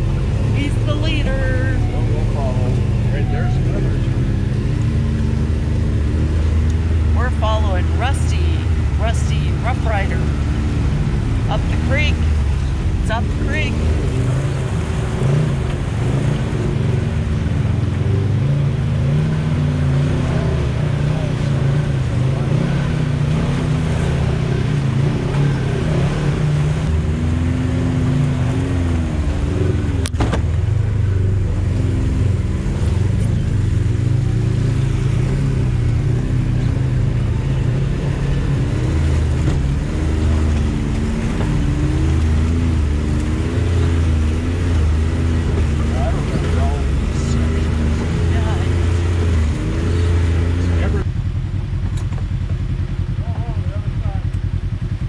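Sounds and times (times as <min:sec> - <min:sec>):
utv engine revving: 0:00.0 - 0:55.0
water splashing around tyres: 0:08.6 - 0:55.0.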